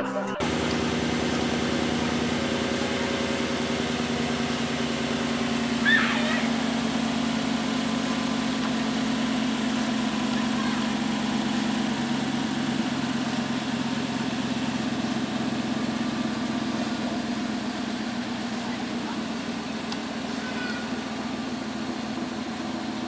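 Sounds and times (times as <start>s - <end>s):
vehicle engine idling: 0.4s - 23.0s.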